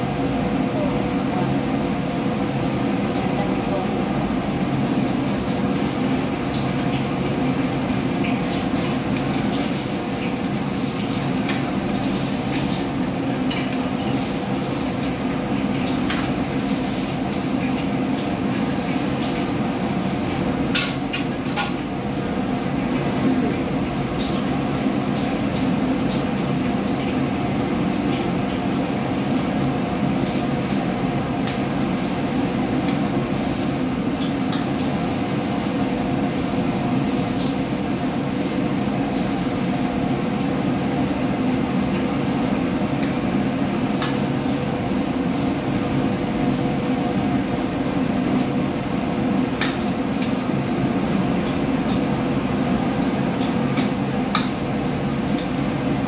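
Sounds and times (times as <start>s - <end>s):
gas burners roaring: 0.0s - 56.0s.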